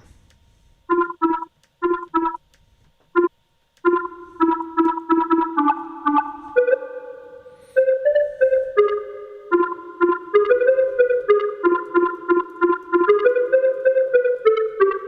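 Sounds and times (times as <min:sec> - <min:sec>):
staccato square-wave synth notes: 0:00.9 - 0:02.4, 0:03.2 - 0:15.0.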